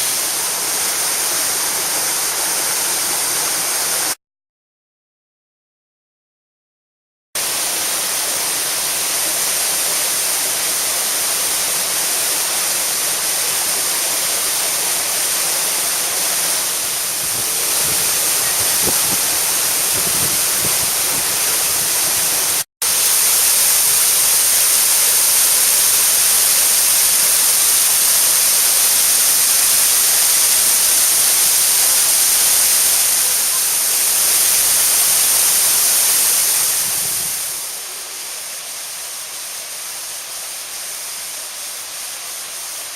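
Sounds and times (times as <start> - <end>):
waterfall rushing: 0.0 - 4.2, 7.4 - 42.9.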